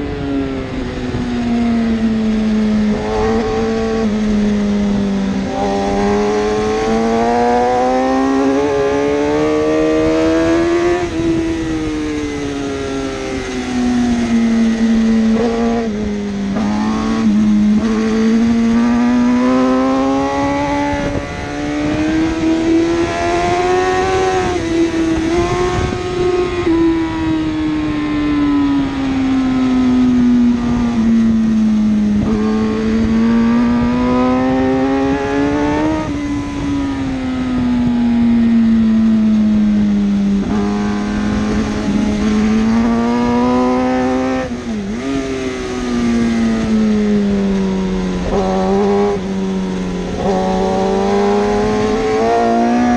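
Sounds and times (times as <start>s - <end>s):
motorcycle engine running hard: 0.0s - 52.9s.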